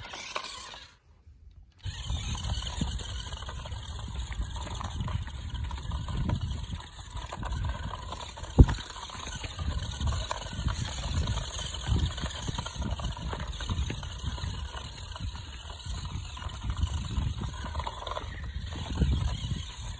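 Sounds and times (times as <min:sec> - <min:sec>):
toy truck motor whirring: 0:00.0 - 0:01.1, 0:01.8 - 0:19.9.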